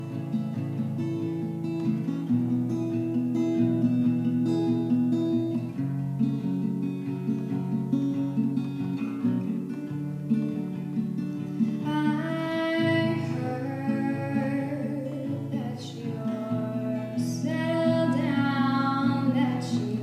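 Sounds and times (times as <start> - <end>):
acoustic guitar picking chords: 0.0 - 20.0.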